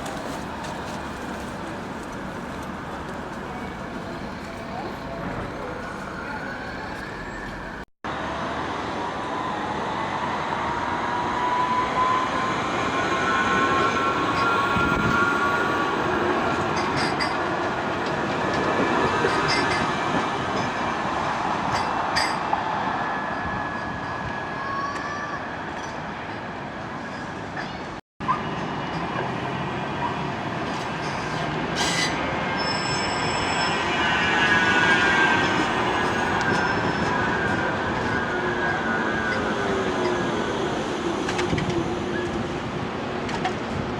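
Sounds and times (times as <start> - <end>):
tram rumbling on rails: 0.0 - 43.9.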